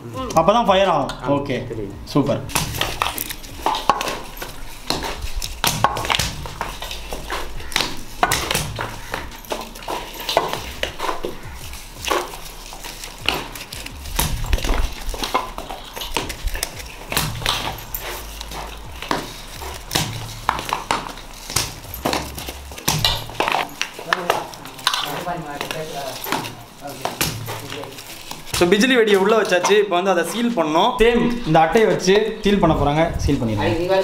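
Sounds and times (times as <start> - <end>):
paper firecrackers clicking and rustling: 2.5 - 32.5
voices talking: 6.6 - 34.0.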